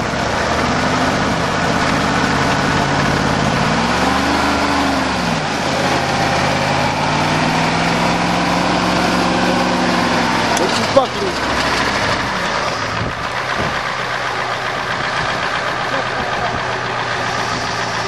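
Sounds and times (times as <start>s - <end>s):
diesel engine revving: 0.0s - 18.0s.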